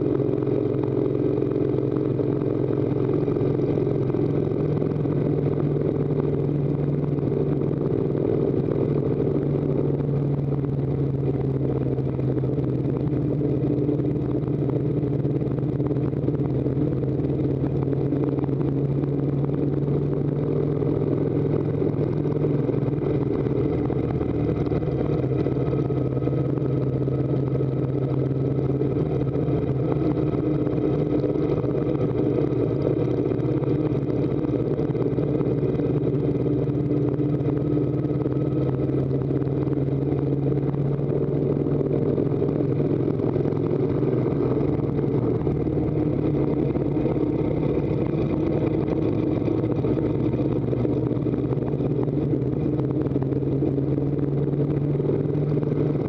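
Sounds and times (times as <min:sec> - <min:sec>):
motorcycle engine under load: 0:00.0 - 0:56.0
road and wind noise: 0:00.0 - 0:56.0.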